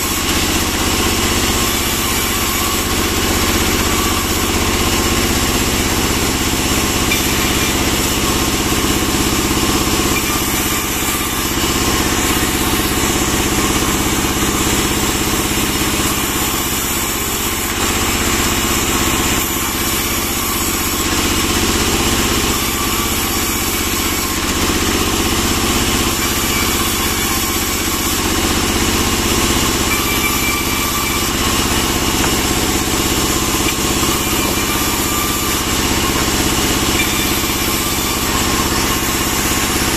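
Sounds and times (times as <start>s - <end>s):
band sawmill droning: 0.0s - 39.9s.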